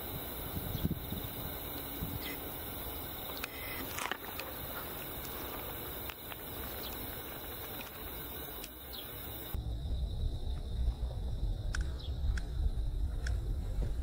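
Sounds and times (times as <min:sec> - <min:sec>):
wind rumble on microphone: 0:00.0 - 0:08.6, 0:09.3 - 0:14.0
field insects chorus: 0:00.0 - 0:14.0.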